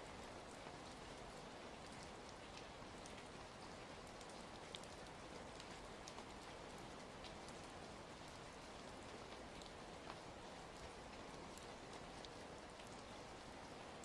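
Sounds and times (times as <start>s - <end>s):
faint steady rain: 0.0s - 14.0s.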